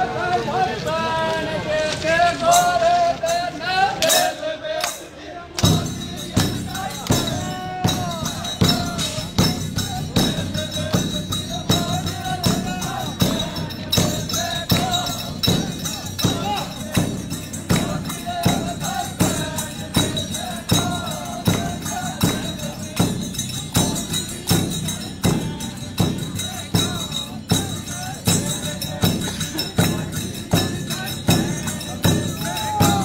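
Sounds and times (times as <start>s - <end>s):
people singing: 0.0s - 33.0s
tambourine jingles: 2.2s - 33.0s
folk drum beat: 5.5s - 33.0s.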